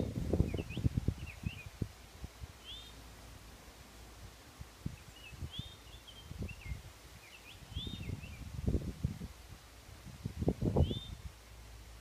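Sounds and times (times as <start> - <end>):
wind buffeting microphone: 0.0 - 2.8, 4.2 - 11.4
songbird chirping: 0.0 - 8.9, 10.6 - 12.0.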